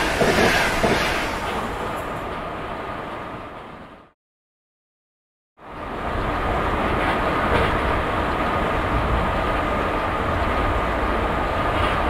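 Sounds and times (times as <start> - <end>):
high-speed train rumble and rush: 0.0 - 4.2, 5.6 - 12.0.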